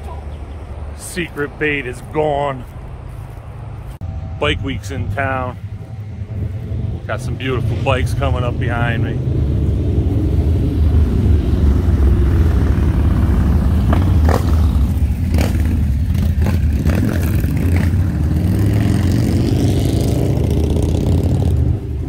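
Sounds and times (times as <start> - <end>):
motorcycles riding past: 0.0 - 22.0.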